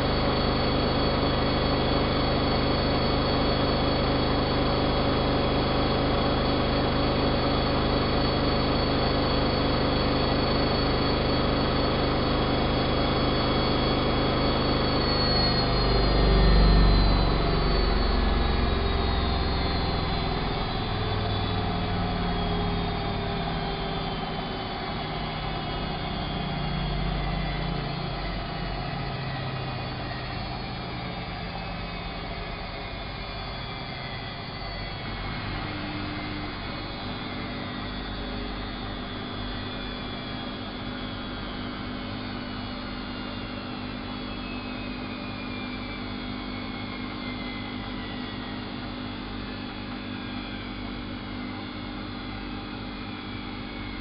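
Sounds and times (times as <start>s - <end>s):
washing machine spin motor whine: 0.0s - 54.0s.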